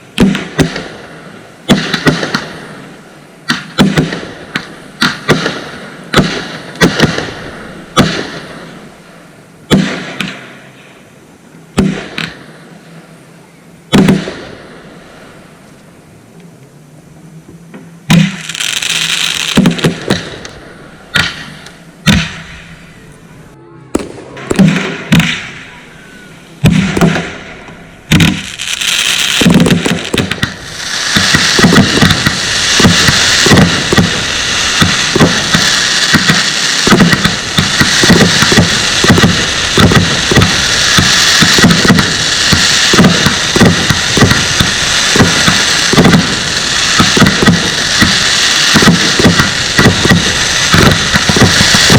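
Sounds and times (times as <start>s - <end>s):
fireworks bangs and crackling: 0.0s - 10.8s, 11.7s - 13.1s, 13.9s - 15.7s, 17.5s - 23.2s, 23.9s - 51.9s.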